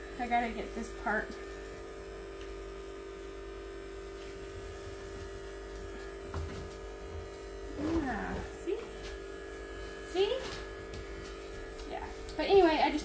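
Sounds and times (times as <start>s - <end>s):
hair clippers humming: 0.0s - 13.0s.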